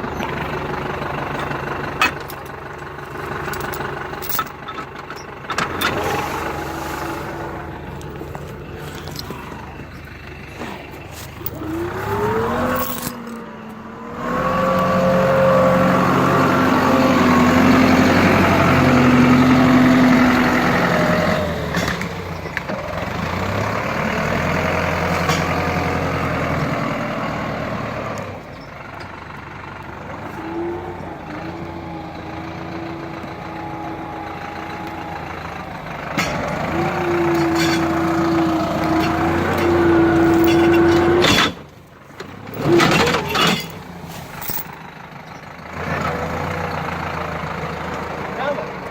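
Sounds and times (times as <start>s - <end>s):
tractor diesel engine revving: 0.0s - 48.9s.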